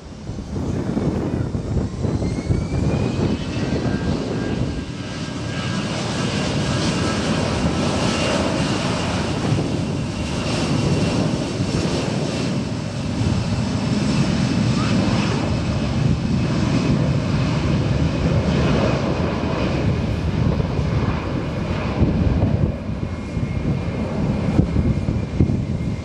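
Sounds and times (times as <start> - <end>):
high turbine whine: 0.0 - 26.0
jet airliner engines rumbling: 0.0 - 26.0.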